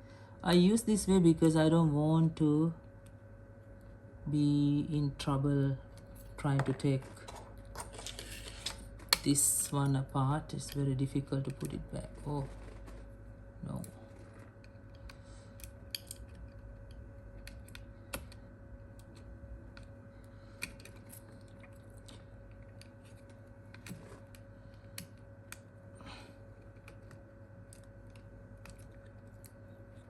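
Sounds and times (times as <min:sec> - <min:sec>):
steady faint hum: 0:00.0 - 0:30.0.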